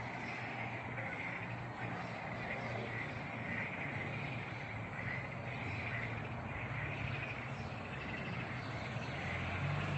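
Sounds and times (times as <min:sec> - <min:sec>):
insect chorus: 0:00.0 - 0:09.9.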